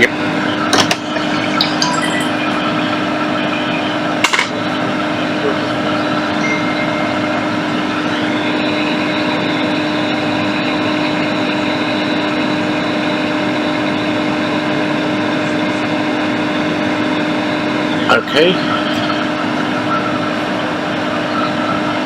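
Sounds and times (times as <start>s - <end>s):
constant hum: 0.0s - 22.0s
hot air station fan whir: 0.0s - 22.0s.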